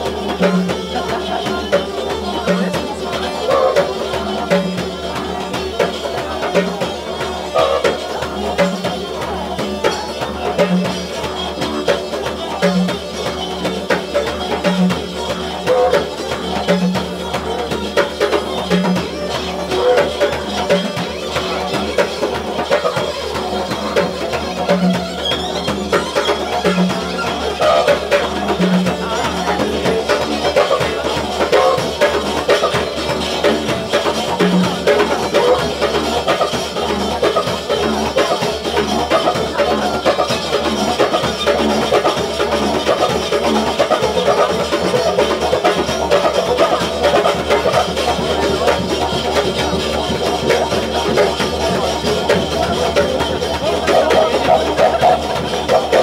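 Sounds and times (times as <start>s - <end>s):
didgeridoo drone: 0.0s - 56.0s
hand drum strokes: 0.0s - 56.0s.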